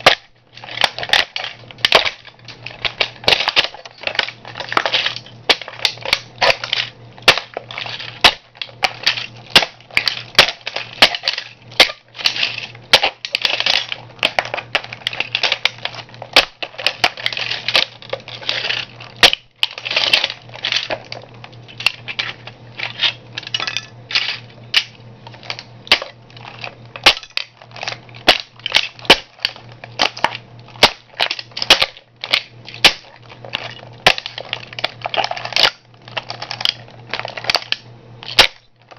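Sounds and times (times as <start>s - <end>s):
steady low hum: 0.0s - 38.9s
toy car cracking underfoot: 0.0s - 38.9s.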